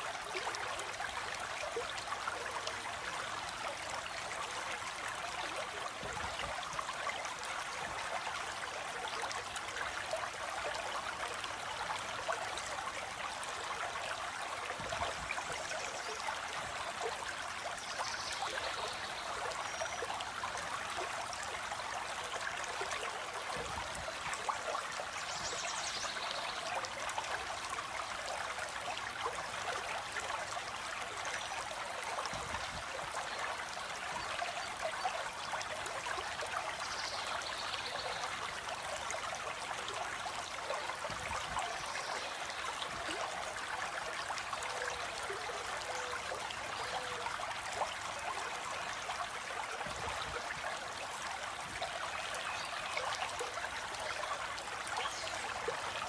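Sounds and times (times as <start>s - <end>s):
stream of water flowing: 0.0s - 56.0s.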